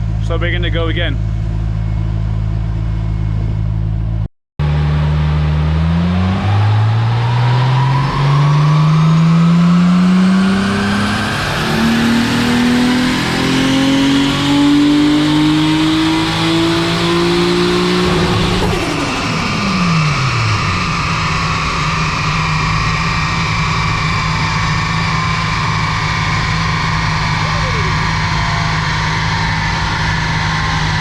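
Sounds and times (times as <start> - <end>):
engine revving at full throttle: 4.6 - 31.0.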